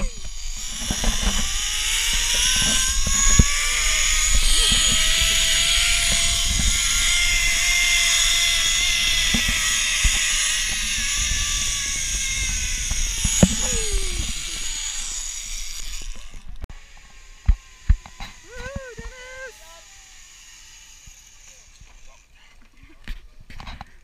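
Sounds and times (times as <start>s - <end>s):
zipline pulleys whining on cable: 0.0s - 22.5s.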